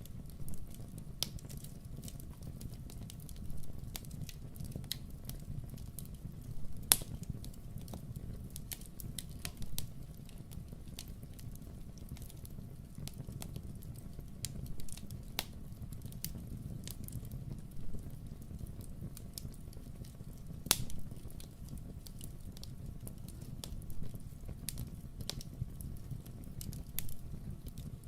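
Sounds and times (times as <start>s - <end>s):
fire crackling and popping: 0.0s - 28.0s
low rumble of fire: 0.0s - 28.0s.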